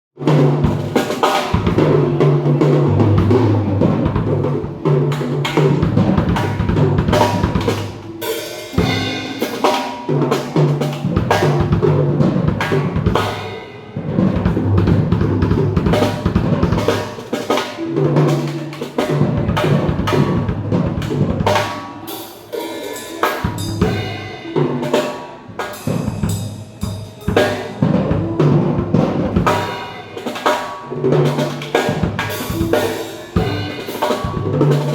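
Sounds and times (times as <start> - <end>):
drum kit playing: 0.2 - 34.9
cymbals ringing: 0.3 - 34.9.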